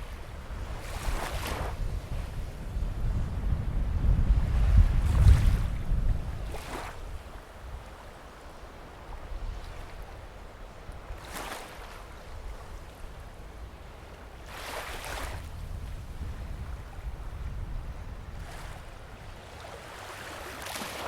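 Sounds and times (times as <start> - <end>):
waves washing onto beach: 0.0 - 21.0.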